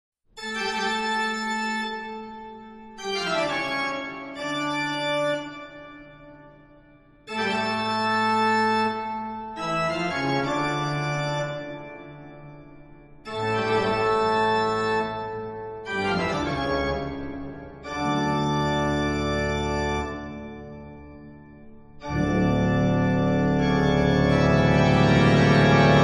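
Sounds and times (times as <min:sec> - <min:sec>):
organ music: 0:00.4 - 0:26.0.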